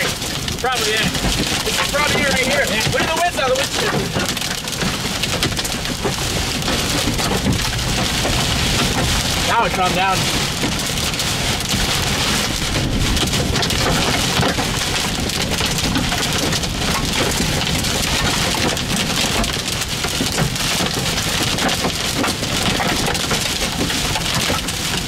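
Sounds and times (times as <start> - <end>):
heavy rain on a vehicle: 0.0 - 25.0.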